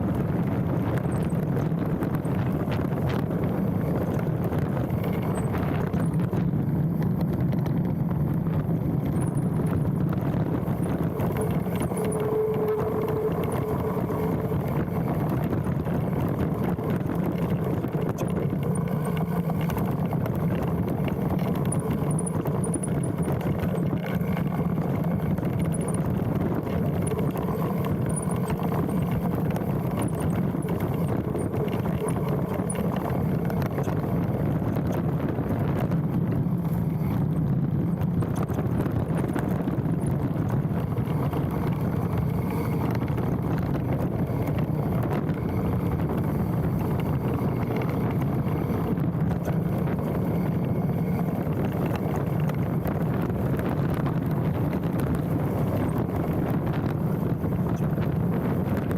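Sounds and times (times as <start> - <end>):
bike rattling: 0.0 - 58.9
bike tyres rumbling on dirt: 0.0 - 58.9
wind noise: 0.0 - 58.9.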